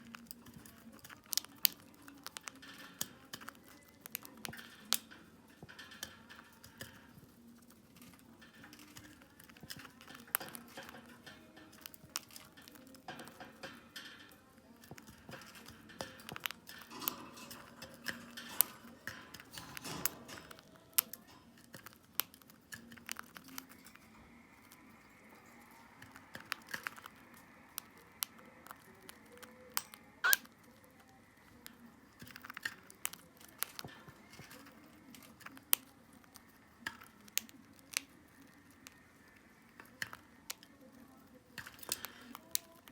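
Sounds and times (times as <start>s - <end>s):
bird crunching crisp food: 0.0s - 42.9s.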